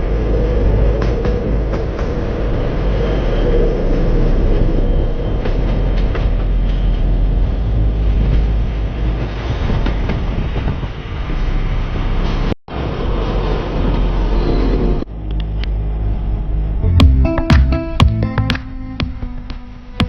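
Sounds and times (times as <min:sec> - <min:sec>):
train rumbling on rails: 0:00.0 - 0:17.4.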